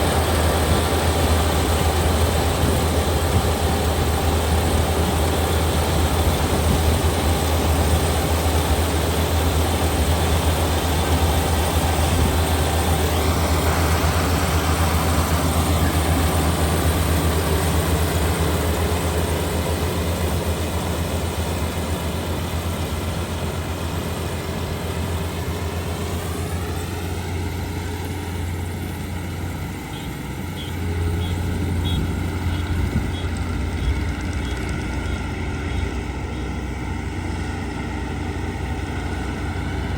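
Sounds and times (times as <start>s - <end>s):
combine harvester engine hum: 0.0s - 39.9s
machinery whine: 0.0s - 39.9s.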